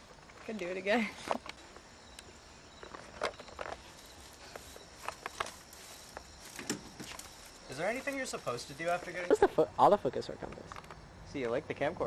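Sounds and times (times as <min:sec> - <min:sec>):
high insect hum: 0:00.0 - 0:12.0.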